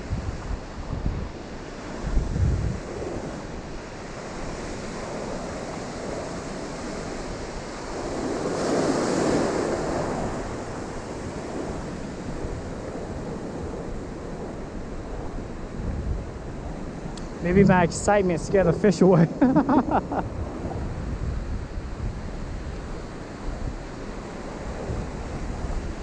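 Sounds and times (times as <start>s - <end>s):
ocean surf washing in: 0.0s - 26.0s
wind rumbling on microphone: 0.0s - 26.0s.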